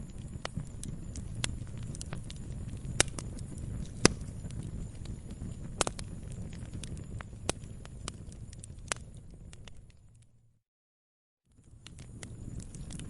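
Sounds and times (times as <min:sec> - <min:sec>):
log fire crackling: 0:00.0 - 0:10.4, 0:11.5 - 0:13.0.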